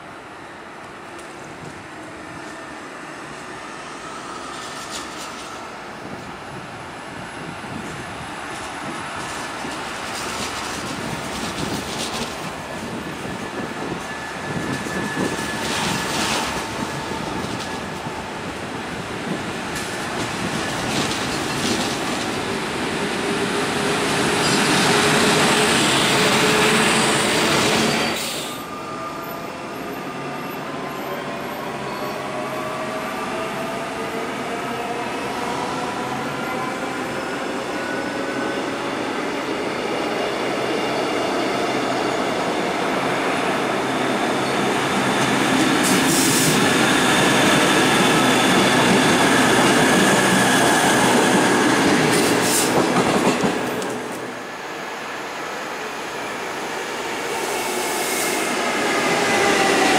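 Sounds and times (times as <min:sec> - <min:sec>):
train rolling in: 0:00.0 - 0:59.9
train rumbling past: 0:00.9 - 0:59.9.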